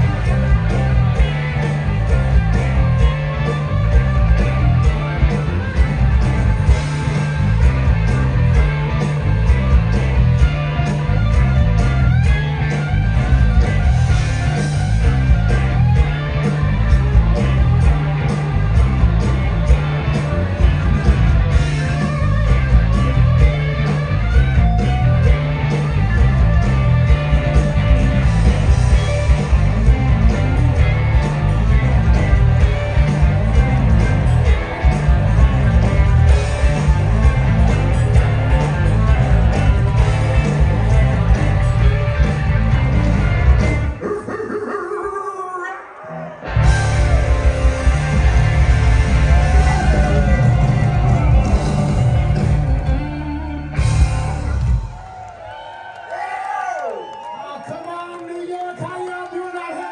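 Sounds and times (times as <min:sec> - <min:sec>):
blues-rock band playing: 0:00.0 - 0:44.0, 0:46.4 - 0:55.4
lead electric guitar bent notes: 0:00.0 - 0:44.0, 0:46.3 - 0:55.0.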